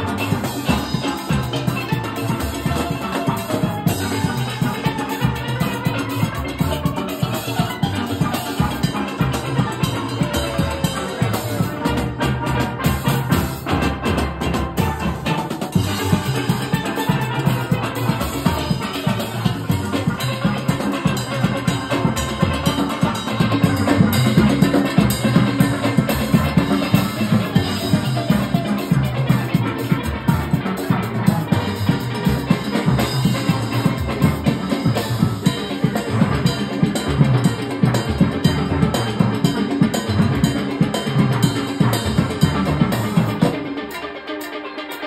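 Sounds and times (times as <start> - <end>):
drum kit beat: 0.0 - 45.0
steel pans playing: 0.0 - 45.0.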